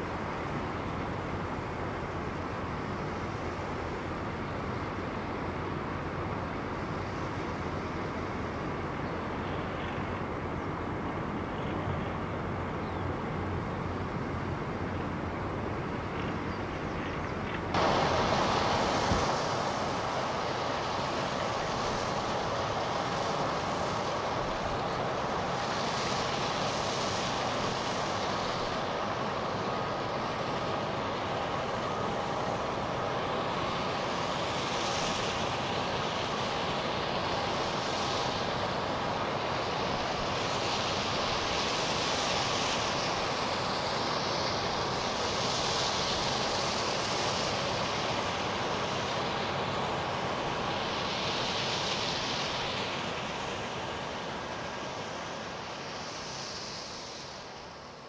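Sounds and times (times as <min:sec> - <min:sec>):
ship engine drone: 0:00.0 - 0:58.0.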